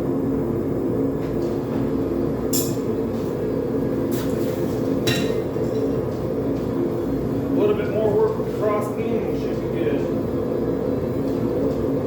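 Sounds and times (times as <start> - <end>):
forge burner roaring: 0.0 - 12.0.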